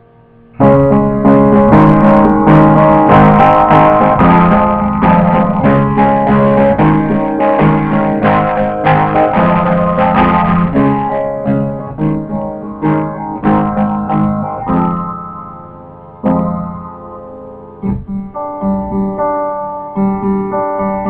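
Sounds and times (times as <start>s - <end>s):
distorted piano chords: 0.0s - 21.0s.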